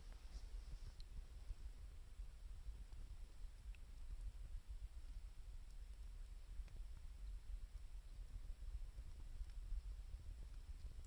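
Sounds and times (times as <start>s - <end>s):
wood fire burning: 0.0s - 11.0s.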